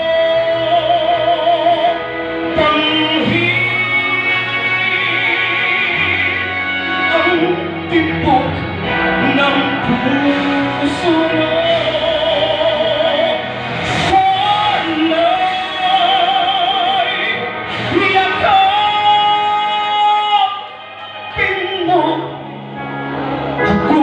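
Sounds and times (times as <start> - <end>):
man singing a ballad: 0.0 - 22.5, 23.6 - 24.0
instrumental accompaniment: 0.3 - 24.0.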